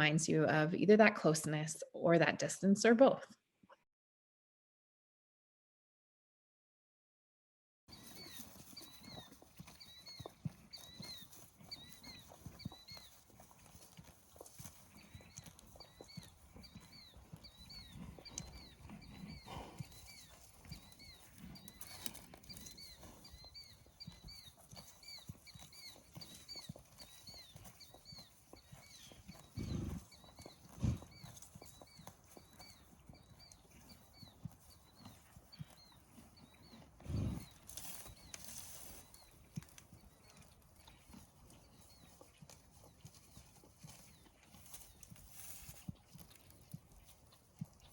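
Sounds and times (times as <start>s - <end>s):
horse hoof steps: 7.9s - 47.9s.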